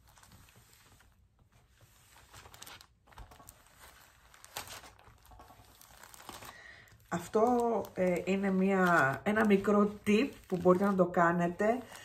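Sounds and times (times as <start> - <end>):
plastic film crinkling under cloth: 0.0 - 12.0.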